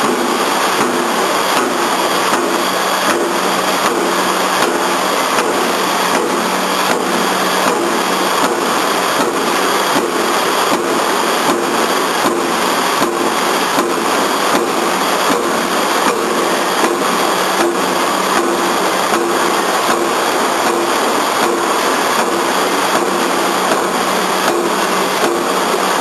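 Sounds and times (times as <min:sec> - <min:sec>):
power press punching steel plate: 0:00.0 - 0:26.0
steady machine hum: 0:00.0 - 0:26.0.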